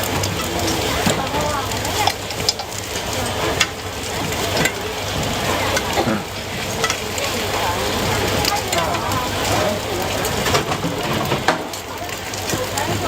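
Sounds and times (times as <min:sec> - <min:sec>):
food frying sizzle: 0:00.0 - 0:13.0.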